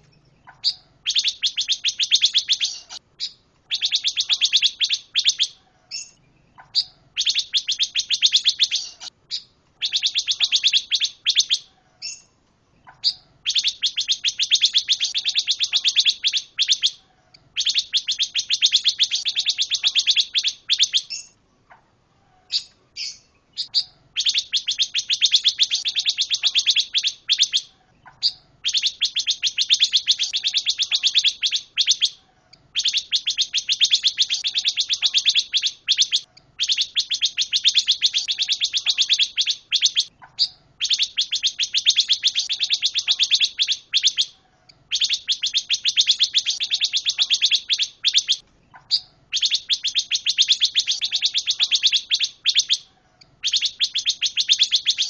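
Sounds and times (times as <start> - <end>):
songbird trilling: 0.0 - 21.4, 22.4 - 55.0.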